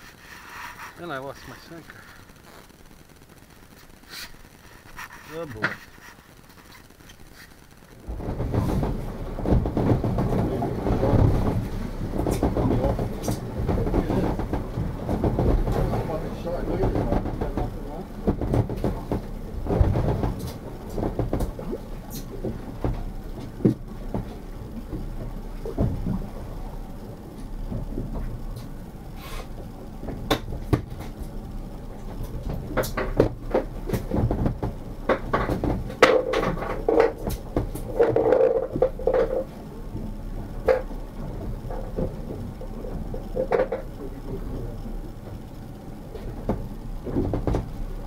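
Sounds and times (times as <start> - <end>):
steady low rumble: 0.0 - 48.0
knocks and clatter of gear: 8.1 - 28.8, 29.6 - 48.0.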